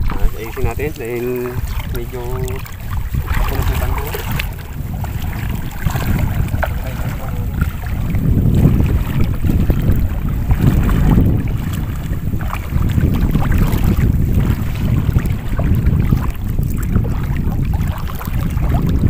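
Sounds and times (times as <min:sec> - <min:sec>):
water sloshing around wading legs: 0:00.0 - 0:19.0
wind buffeting microphone: 0:00.0 - 0:19.0.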